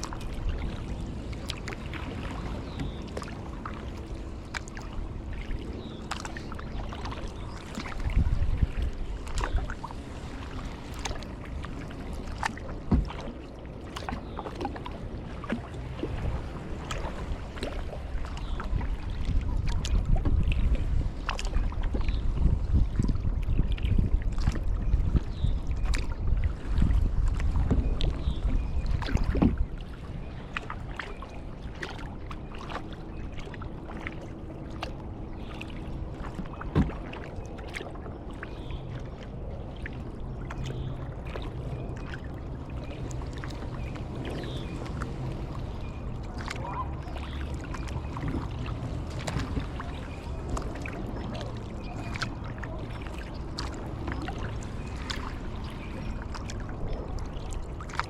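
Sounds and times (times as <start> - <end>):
paddle dipping and dripping: 0.0 - 58.0
water lapping against hull: 0.0 - 58.0
wind rumble on microphone: 0.0 - 58.0.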